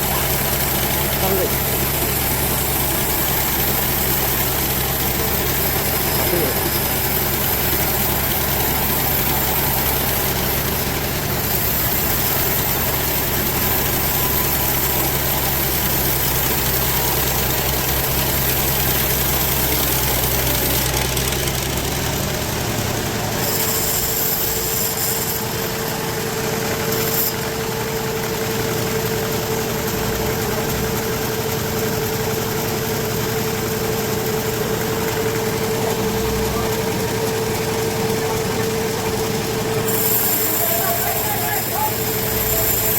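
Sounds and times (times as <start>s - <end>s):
sawmill machinery engine hum: 0.0s - 42.9s
steady whining tone: 0.0s - 42.9s.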